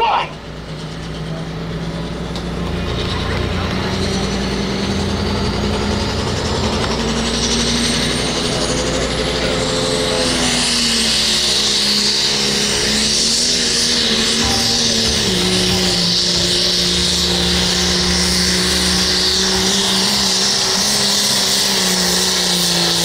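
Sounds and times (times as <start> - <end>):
diesel tractor engine running hard: 0.0 - 23.0
high turbo whine: 0.0 - 23.0.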